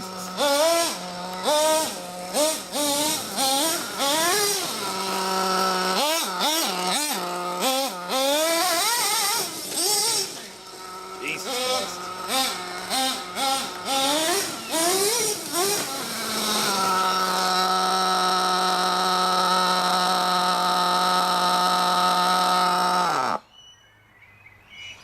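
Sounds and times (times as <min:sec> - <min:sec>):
model nitro engine revving: 0:00.0 - 0:23.4.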